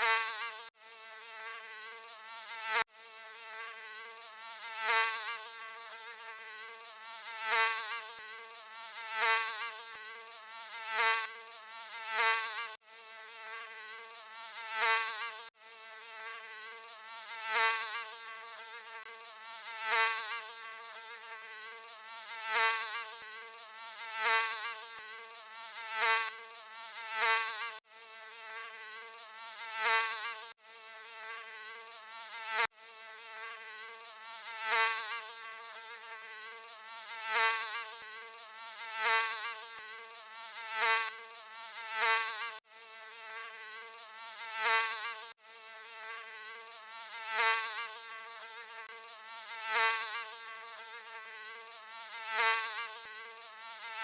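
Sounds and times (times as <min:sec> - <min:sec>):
mosquito buzzing: 0:00.0 - 0:54.0.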